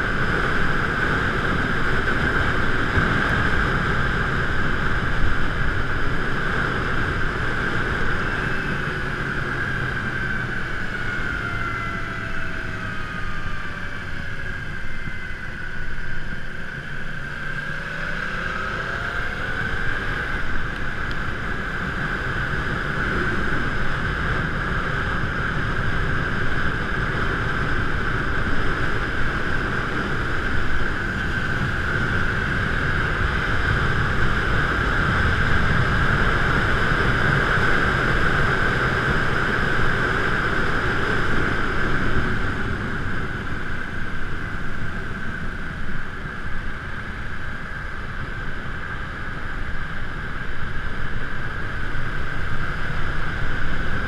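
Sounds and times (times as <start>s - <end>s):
road noise rumble: 0.0s - 54.0s.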